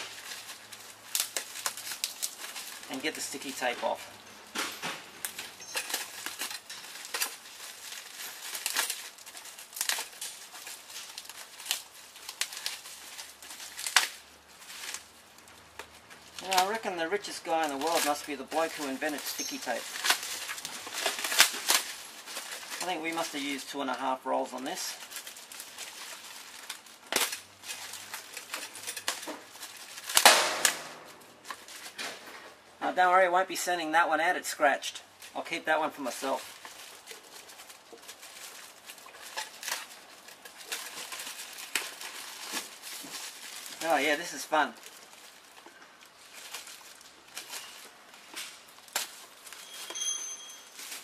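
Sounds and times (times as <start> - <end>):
packing tape ripping: 0.0 - 23.6, 24.6 - 32.4, 36.2 - 51.0
wrapping crinkling: 0.0 - 32.6, 34.6 - 51.0.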